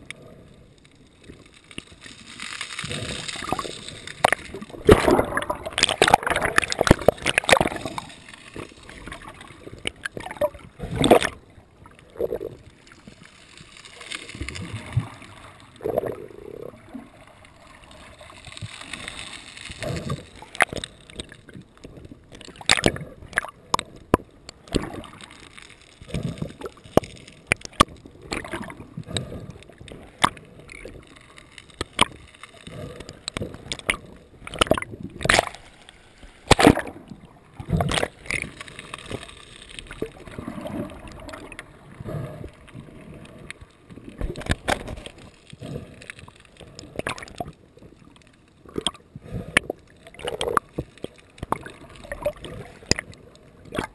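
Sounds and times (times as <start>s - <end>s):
water sloshing and gurgling: 0.0s - 53.9s.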